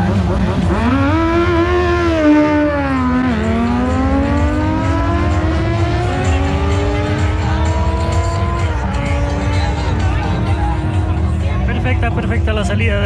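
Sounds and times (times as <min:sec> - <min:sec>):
motorcycle engines accelerating: 0:00.0 - 0:13.0.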